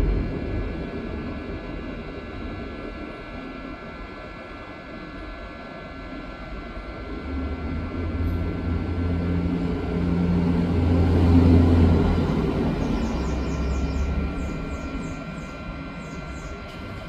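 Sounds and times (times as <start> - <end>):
hot-air station rushing hum: 0.0 - 17.0.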